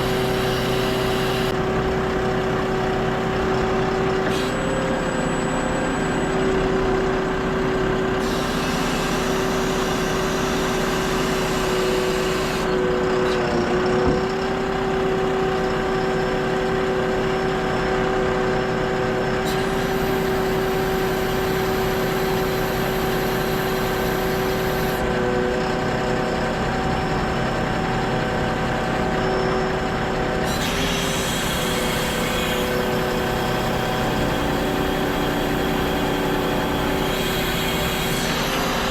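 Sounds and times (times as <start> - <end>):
heavy truck engine running: 0.0 - 38.9.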